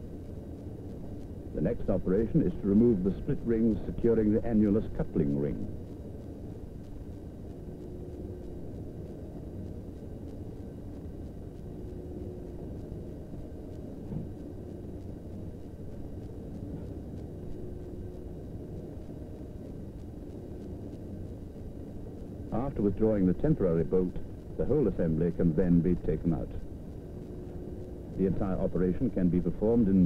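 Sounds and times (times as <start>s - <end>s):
low rumble with faint hum: 0.0s - 30.0s.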